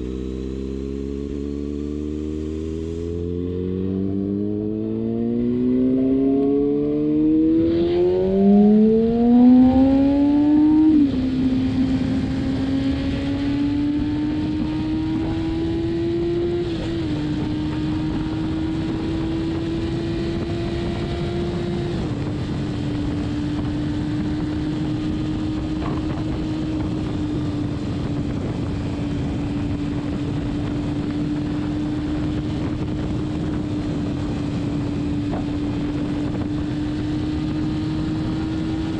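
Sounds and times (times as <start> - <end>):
motorcycle engine accelerating: 0.0 - 38.9
wind noise: 2.8 - 38.9.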